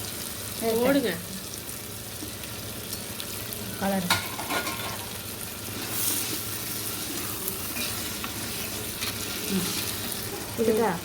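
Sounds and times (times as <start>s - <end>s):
spices sizzling in a pot: 0.0s - 11.0s.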